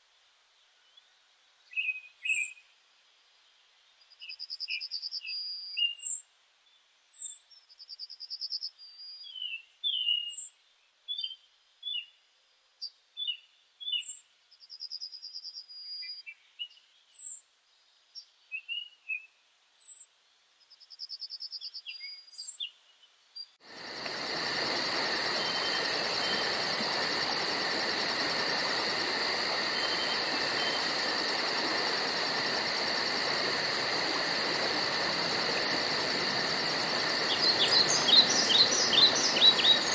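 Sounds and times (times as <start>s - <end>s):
insect chorus: 0.0s - 10.6s, 11.2s - 16.3s, 23.4s - 39.9s
songbirds calling: 4.0s - 12.2s, 12.8s - 39.9s.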